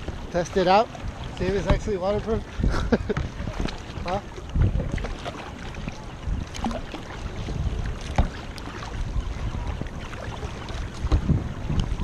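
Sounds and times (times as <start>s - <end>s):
paddle blades splashing: 0.0s - 12.0s
water slapping plastic hull: 0.0s - 12.0s
wind rumbling on microphone: 0.0s - 12.0s.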